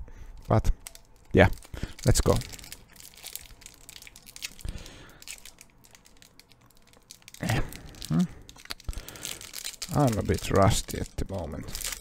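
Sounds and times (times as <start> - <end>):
foil wrapper crinkling and tearing: 0.4 - 12.0.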